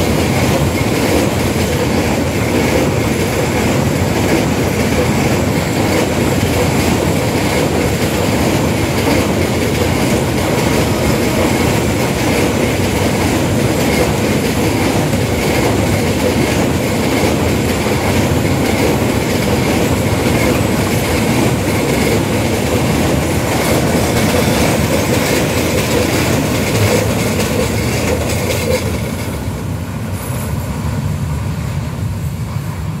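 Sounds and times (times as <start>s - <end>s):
freight train wheels rumbling on rails: 0.0s - 33.0s.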